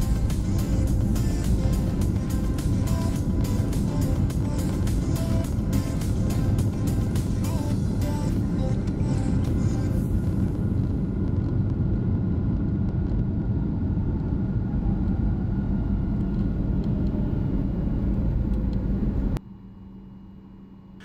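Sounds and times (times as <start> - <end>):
airplane cabin rumble: 0.0 - 19.4.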